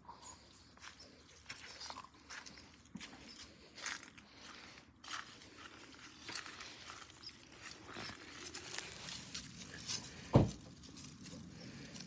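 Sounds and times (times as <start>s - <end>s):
dry pine needles rustling: 0.1s - 12.0s.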